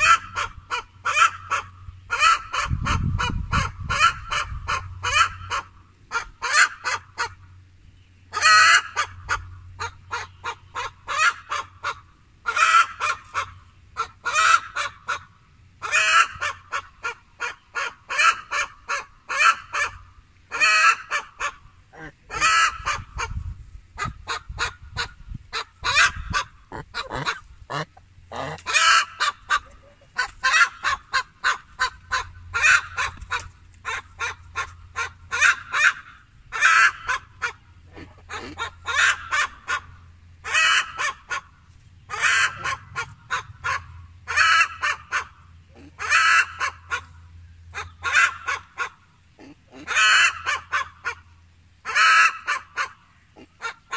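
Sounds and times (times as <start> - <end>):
geese honking: 0.0 - 7.4, 8.4 - 23.4, 24.0 - 41.5, 42.1 - 47.2, 49.8 - 51.2, 51.9 - 53.9.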